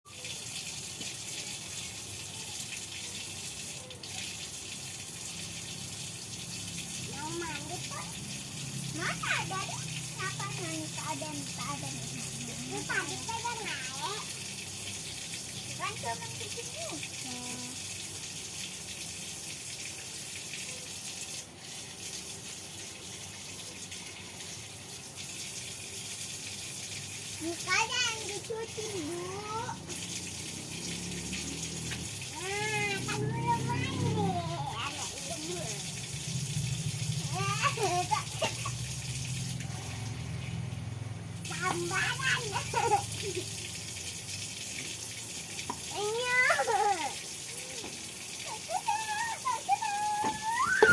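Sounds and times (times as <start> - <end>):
water running from a tap: 0.0 - 50.9.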